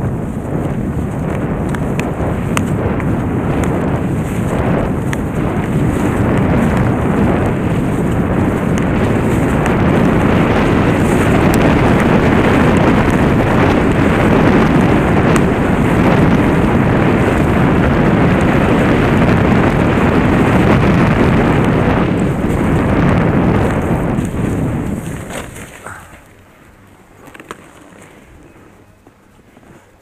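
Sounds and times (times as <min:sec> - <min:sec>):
skis running over snow: 0:00.0 - 0:30.0
wind buffeting microphone: 0:00.0 - 0:30.0.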